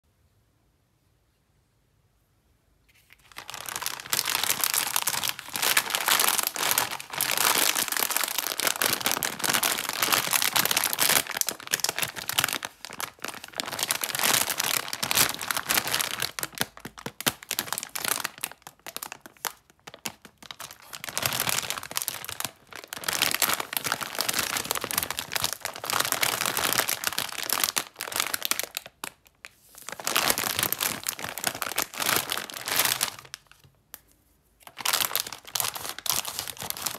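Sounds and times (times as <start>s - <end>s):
plastic snack bag crinkling: 3.0s - 34.0s, 34.6s - 36.9s.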